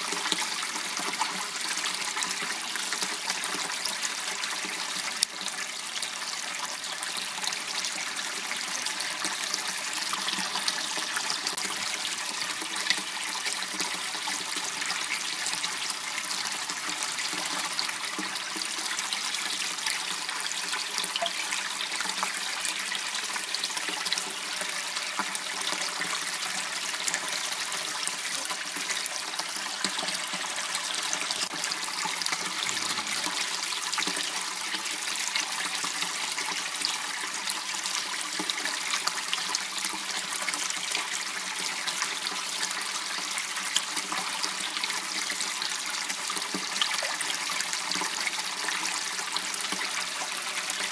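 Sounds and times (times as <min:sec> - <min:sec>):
water trickling in a channel: 0:00.0 - 0:50.9.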